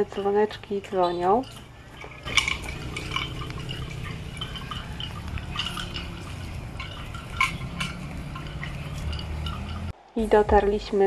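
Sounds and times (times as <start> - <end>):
cattle bells clinking: 0.0 - 10.0.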